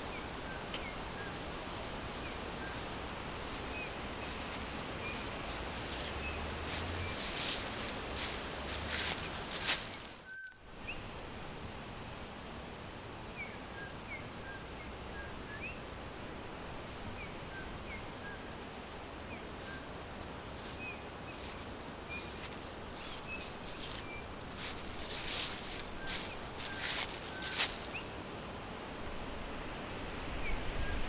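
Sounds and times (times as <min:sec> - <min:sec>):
small birds chirping faintly: 0:00.0 - 0:11.4, 0:13.3 - 0:28.4
steady background hiss: 0:00.0 - 0:31.0.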